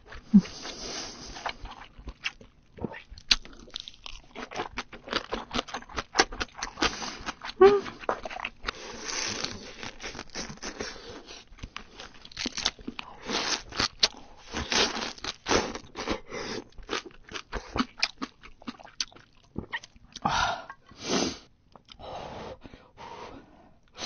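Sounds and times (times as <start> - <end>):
sucking and chewing: 0.0 - 21.1.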